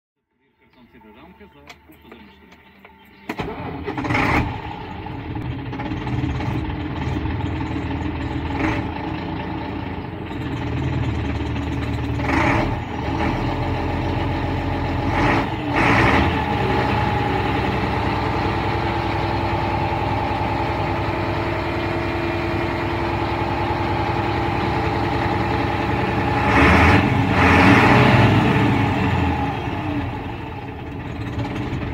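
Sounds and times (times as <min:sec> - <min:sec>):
diesel truck engine running: 0:00.6 - 0:31.9.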